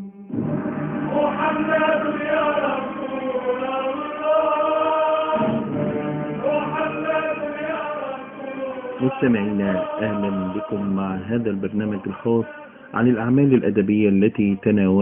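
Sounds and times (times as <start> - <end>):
group singing long gliding notes: 0.0 - 13.1.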